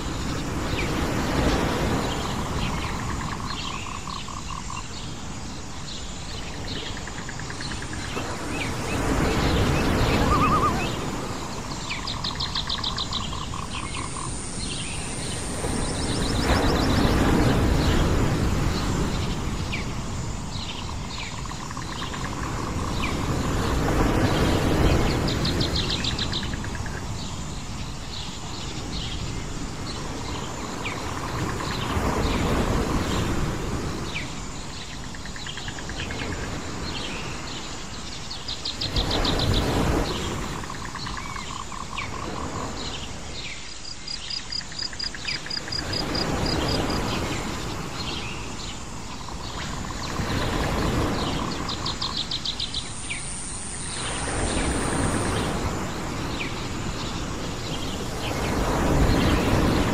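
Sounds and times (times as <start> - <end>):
sea waves washing onto shore: 0.0 - 4.1, 4.8 - 43.9, 45.0 - 59.9
birds chirping and trilling: 0.1 - 59.9.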